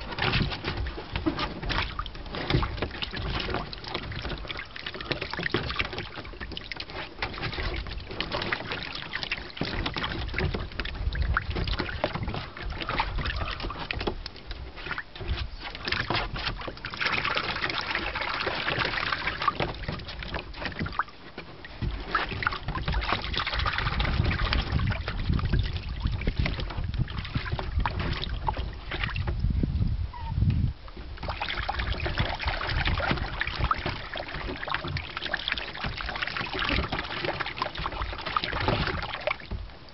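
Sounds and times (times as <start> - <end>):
water splashing in a pool: 0.0 - 39.9.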